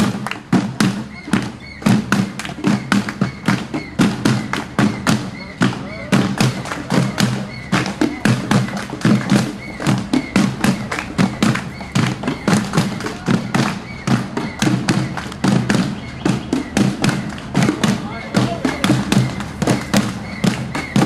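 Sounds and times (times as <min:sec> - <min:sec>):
voices: 0:00.0 - 0:21.0.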